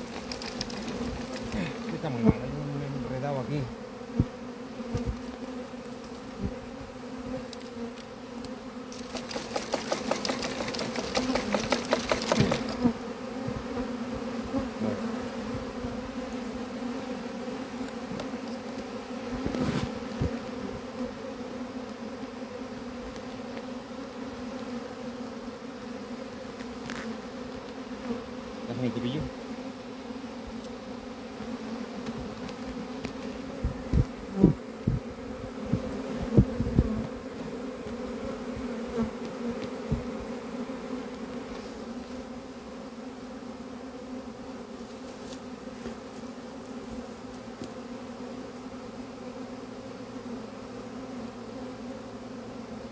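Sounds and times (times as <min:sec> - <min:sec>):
bees buzzing: 0:00.0 - 0:52.9.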